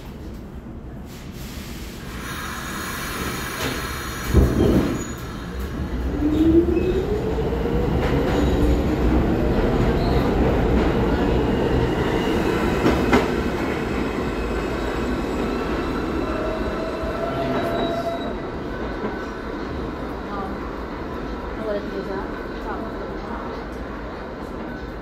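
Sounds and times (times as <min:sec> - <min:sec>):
subway motors whining: 0:00.0 - 0:25.0
train wheels rumbling on rail: 0:00.0 - 0:25.0.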